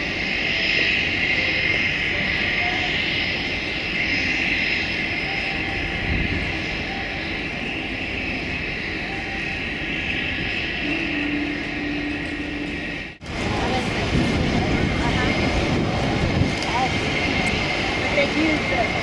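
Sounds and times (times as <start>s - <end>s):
steady low tone: 0.0s - 18.2s
high steady whine: 0.0s - 19.0s
turboprop engine running: 0.0s - 19.0s.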